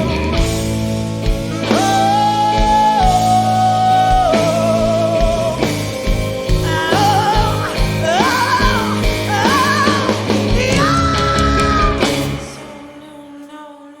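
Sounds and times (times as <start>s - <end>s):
rock band playing: 0.0s - 13.5s
woman singing blues-rock: 0.0s - 14.0s.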